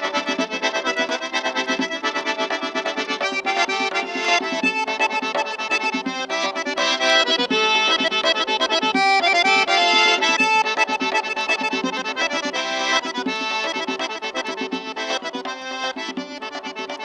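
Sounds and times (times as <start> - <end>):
quick instrumental melody: 0.0 - 17.0.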